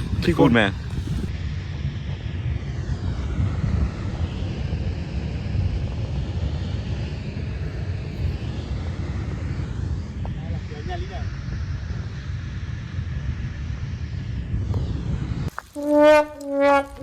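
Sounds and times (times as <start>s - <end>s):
aircraft flying over: 0.0s - 17.0s.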